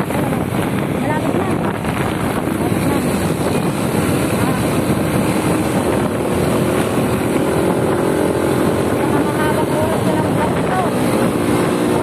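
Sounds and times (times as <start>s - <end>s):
motorcycle engine in traffic: 0.0s - 12.0s.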